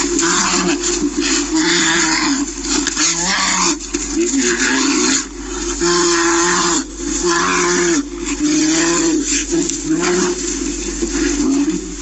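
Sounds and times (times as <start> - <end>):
bears growling and roaring: 0.0 - 12.0.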